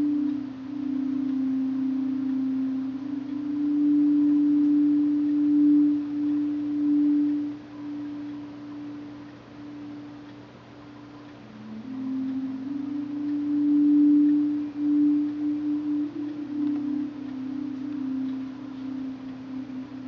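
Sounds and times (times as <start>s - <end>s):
low drone music: 0.0s - 10.3s, 10.9s - 20.0s.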